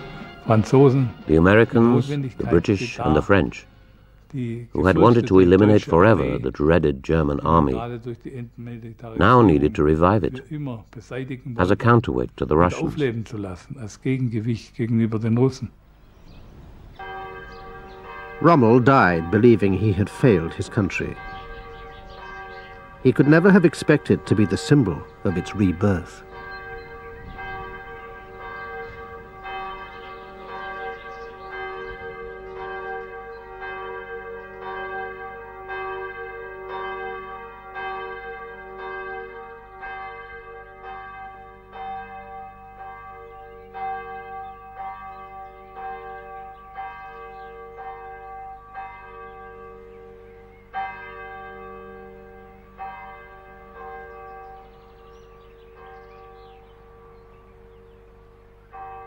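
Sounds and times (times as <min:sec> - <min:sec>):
church bells ringing: 0:00.0 - 0:59.0.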